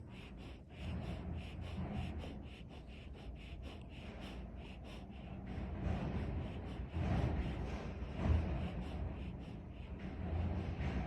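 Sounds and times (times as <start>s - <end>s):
animal breathing rapidly: 0.0s - 11.0s
steady low rumble: 0.0s - 11.0s.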